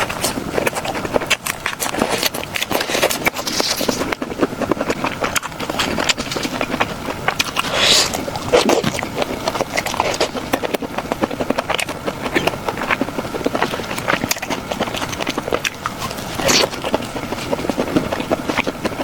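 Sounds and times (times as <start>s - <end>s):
chewing with clicks and smacks: 0.0s - 19.0s
hissing slurp: 0.0s - 19.0s.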